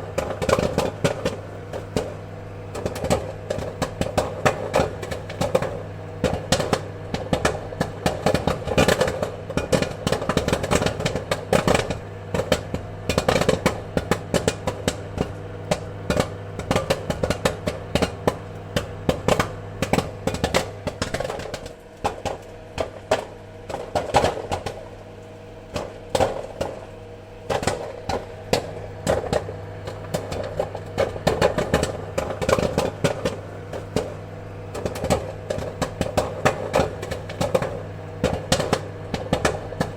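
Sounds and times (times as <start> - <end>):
popcorn popping: 0.0 - 39.9
steady low hum: 0.0 - 39.9.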